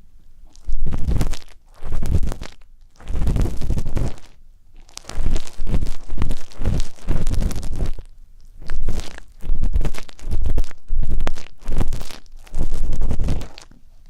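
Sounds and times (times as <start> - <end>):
ear pick scraping in ear: 0.5 - 13.8.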